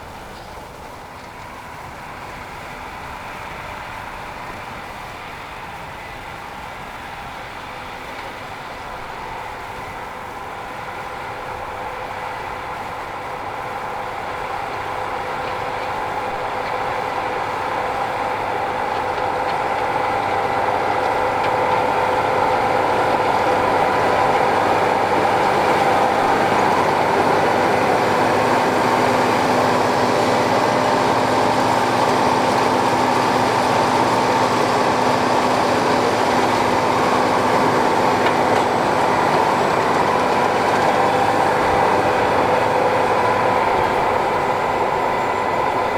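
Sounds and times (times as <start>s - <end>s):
constant mechanical whine: 0.0s - 45.9s
tractor and hay baler running: 0.0s - 45.9s.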